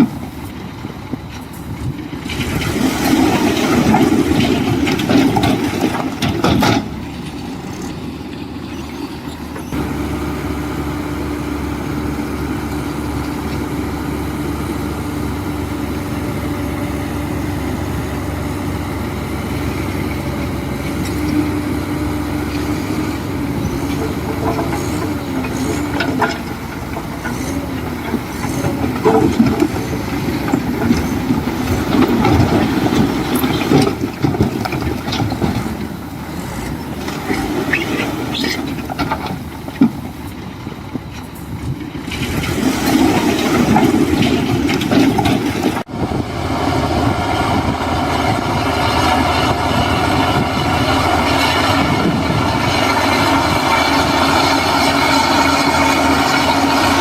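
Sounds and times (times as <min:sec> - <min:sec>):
diesel engine drone: 0:00.0 - 0:57.0
machinery clanking and grinding: 0:00.0 - 0:57.0.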